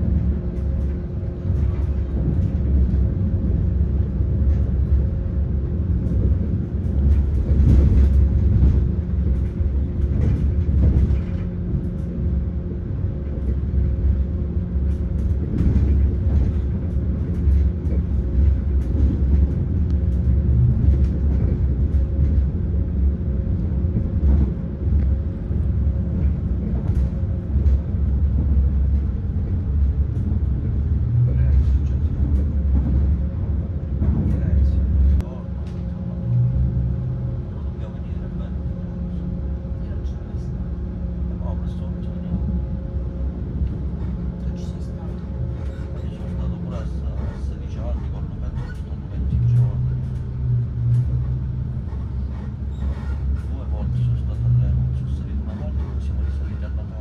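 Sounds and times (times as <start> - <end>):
high-speed train running rumble: 0.0 - 57.0.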